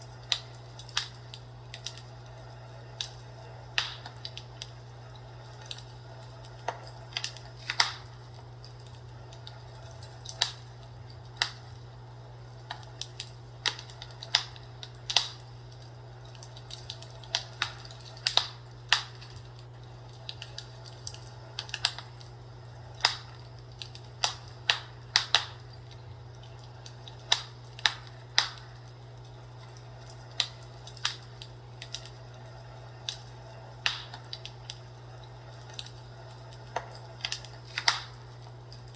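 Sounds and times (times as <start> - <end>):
fireplace crackling: 0.0 - 38.9
steady low hum: 0.0 - 38.9.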